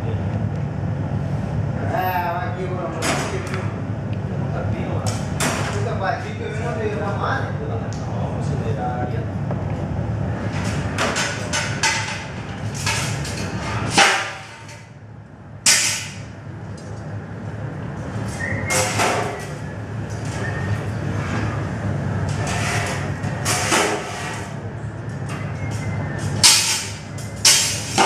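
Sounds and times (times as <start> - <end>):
burners and furnace roaring: 0.0 - 28.0.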